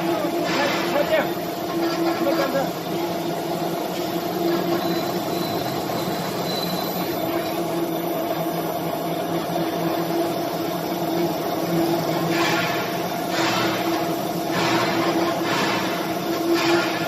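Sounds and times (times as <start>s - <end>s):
boring machine humming: 0.0s - 17.0s.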